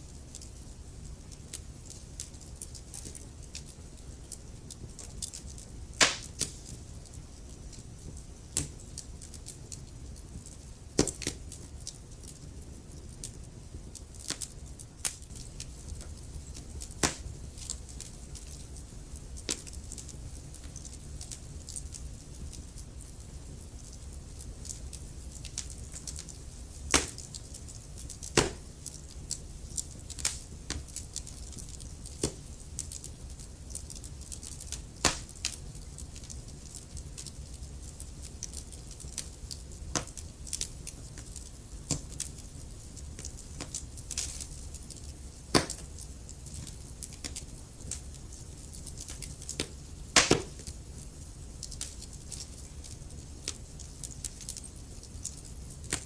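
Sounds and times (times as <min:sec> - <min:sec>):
low rumble of flames: 0:00.0 - 0:56.0
logs crackling and popping: 0:00.1 - 0:56.0.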